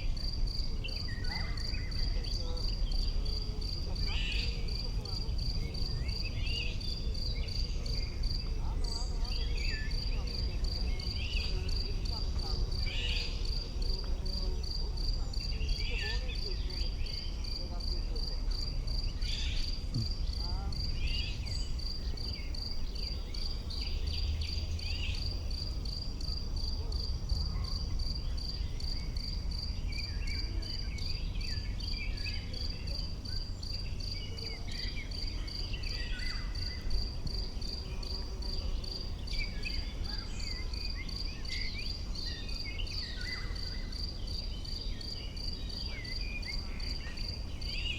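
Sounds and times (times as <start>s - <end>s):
cricket chirping: 0.0s - 47.9s.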